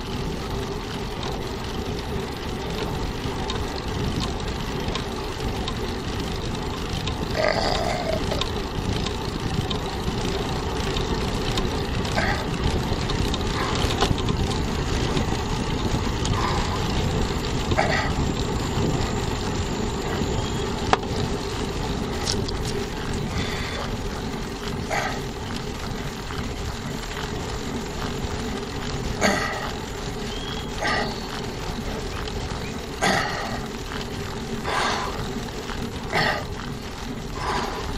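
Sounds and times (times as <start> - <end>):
bicycle road noise: 0.0 - 37.9.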